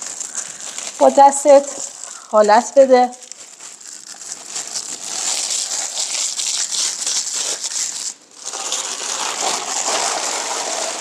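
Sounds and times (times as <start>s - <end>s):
plastic sheet crinkling and rustling: 0.0s - 11.0s.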